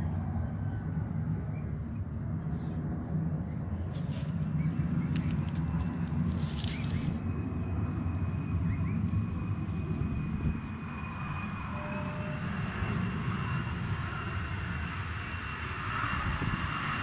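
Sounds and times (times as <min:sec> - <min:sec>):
high-pitched whine: 0:00.0 - 0:17.0
steady low rumble: 0:00.0 - 0:17.0.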